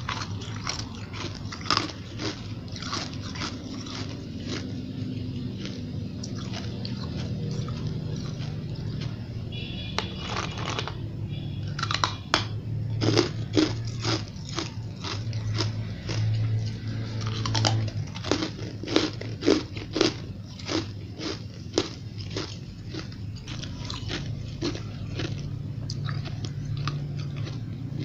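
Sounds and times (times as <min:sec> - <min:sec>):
ice chunks crunching while chewed: 0:00.0 - 0:11.0, 0:11.7 - 0:28.0
steady low hum: 0:00.0 - 0:28.0.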